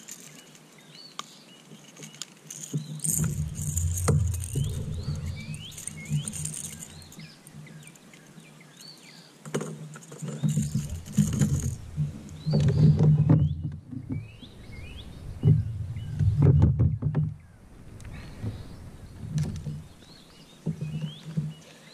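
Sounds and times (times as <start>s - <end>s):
birds chirping: 0.0s - 21.9s
gear bumping in a kayak: 1.2s - 8.3s, 9.4s - 14.5s, 15.4s - 17.4s, 18.0s - 21.8s.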